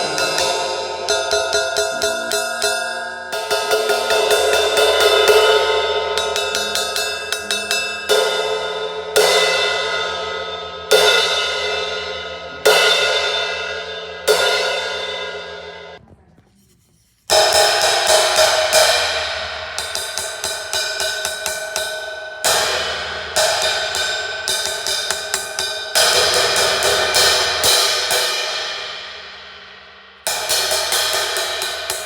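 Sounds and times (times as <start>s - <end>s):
crash cymbal struck with stick: 0.0s - 16.0s, 17.3s - 32.0s.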